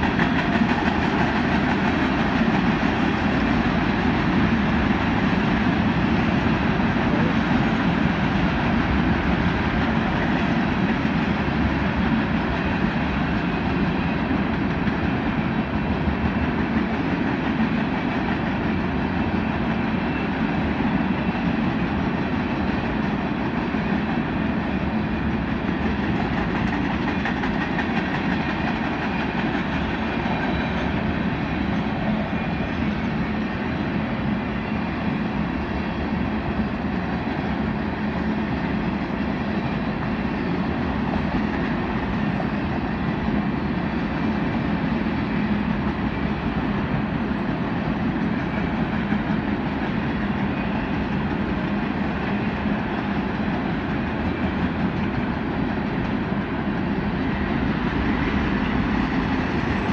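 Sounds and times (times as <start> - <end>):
clickety-clack of rail joints: 0.0 - 59.9
train wheels rumbling on rail: 0.0 - 59.9.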